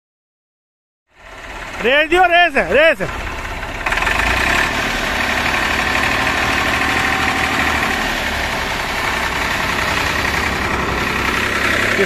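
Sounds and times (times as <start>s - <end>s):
tractor diesel engine running: 1.1s - 12.0s.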